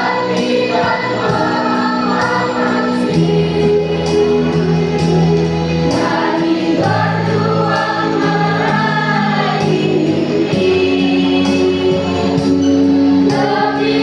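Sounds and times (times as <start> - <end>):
choir singing in parts: 0.0 - 14.0.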